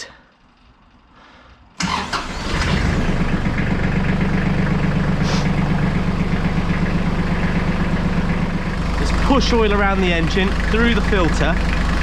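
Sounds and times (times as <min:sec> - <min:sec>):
diesel engine cranking and idling: 0:00.0 - 0:12.0.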